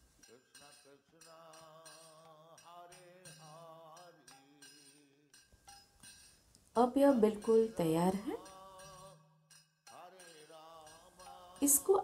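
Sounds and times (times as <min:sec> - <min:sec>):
faint slow background music: 0:00.0 - 0:12.0.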